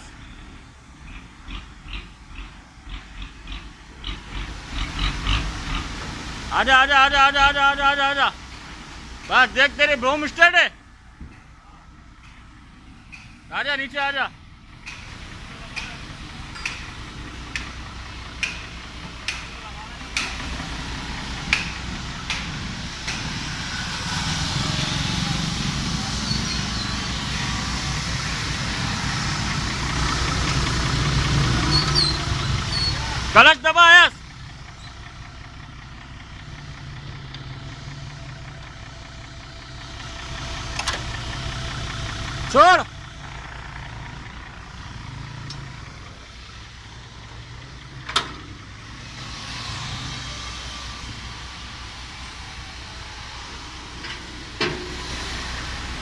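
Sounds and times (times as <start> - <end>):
diesel engine running: 0.0 - 56.0
faint hiss: 4.1 - 56.0.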